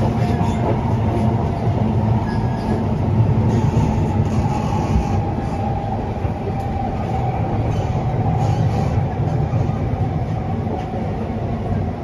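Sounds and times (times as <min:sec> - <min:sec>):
wheel and track rumble: 0:00.0 - 0:12.0.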